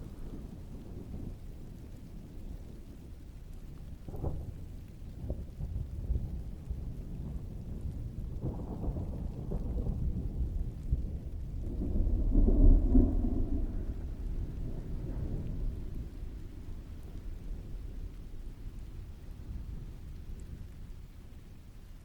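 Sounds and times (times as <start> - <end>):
distant rolling thunder: 0.0 - 21.9
steady rain: 0.0 - 22.0.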